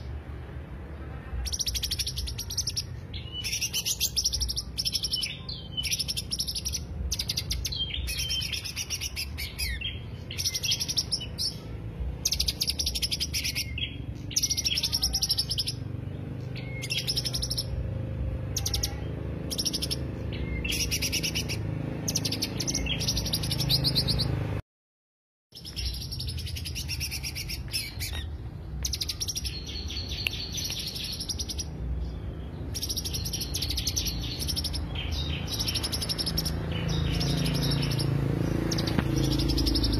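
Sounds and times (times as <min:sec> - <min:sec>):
bird chattering song: 0:01.3 - 0:24.6, 0:25.5 - 0:39.9.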